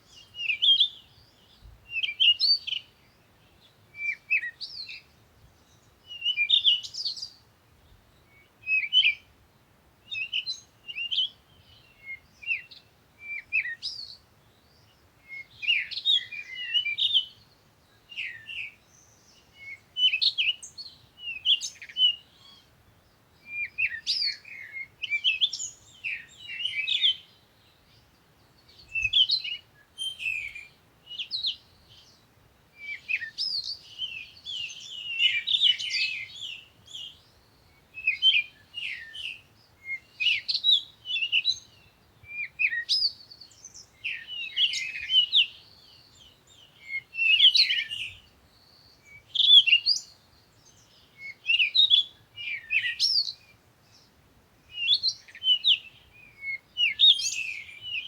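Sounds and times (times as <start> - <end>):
songbirds chirping and twittering: 0.0 - 58.0.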